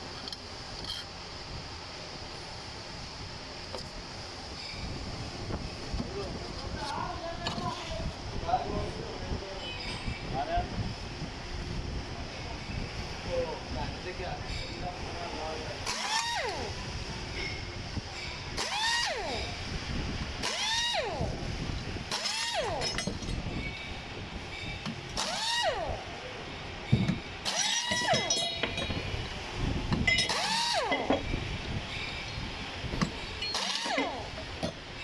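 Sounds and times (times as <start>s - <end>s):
electric fan running: 0.0s - 35.0s.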